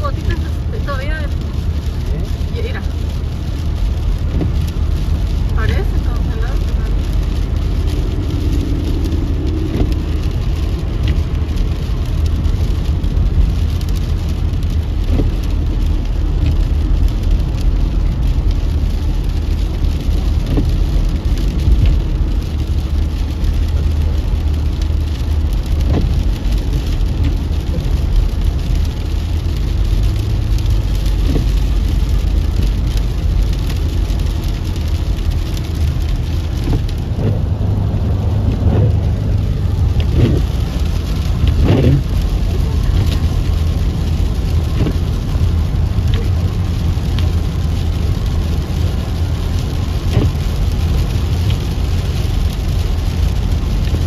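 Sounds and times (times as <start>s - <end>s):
car driving rumble from inside: 0.0s - 54.0s
freezing rain on windshield: 0.0s - 54.0s.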